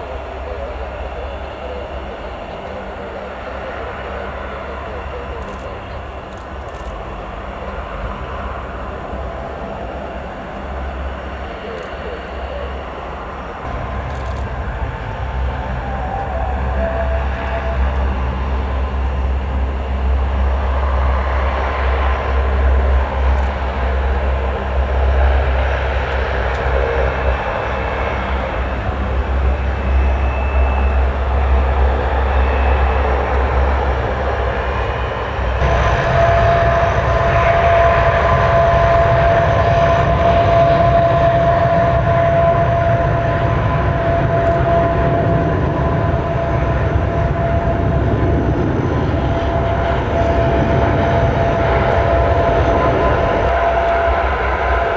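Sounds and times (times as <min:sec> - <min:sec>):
high whine: 0:00.0 - 0:54.9
propeller drone: 0:00.0 - 0:54.9.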